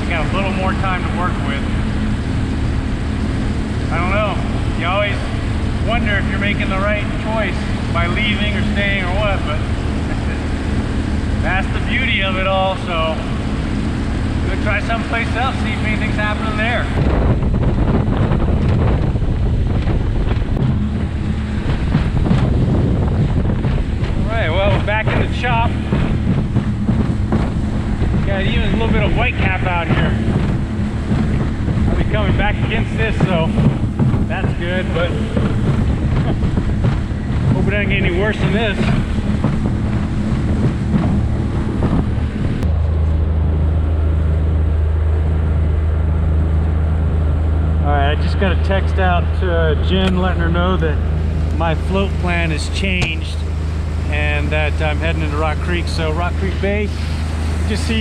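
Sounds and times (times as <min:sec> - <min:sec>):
boat engine rumble: 0:00.0 - 0:58.0
hull slapping waves: 0:00.0 - 0:58.0
wind buffeting microphone: 0:00.0 - 0:58.0.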